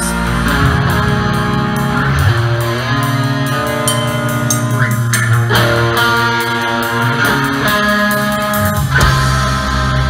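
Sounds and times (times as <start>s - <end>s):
bass guitar line: 0.0s - 10.0s
distorted electric guitars: 0.0s - 10.0s
drum kit with cymbal hits: 0.0s - 10.0s.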